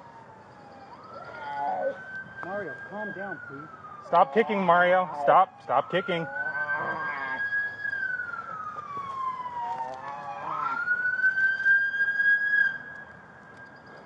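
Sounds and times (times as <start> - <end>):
police siren wailing: 0.0 - 14.0.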